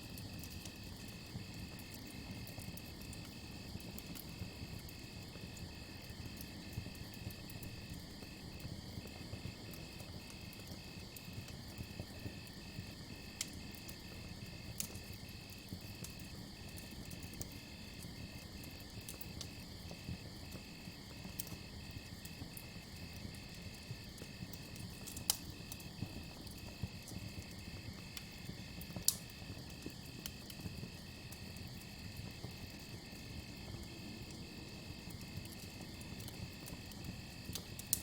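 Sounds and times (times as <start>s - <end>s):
campfire crackling and popping: 0.1s - 38.0s.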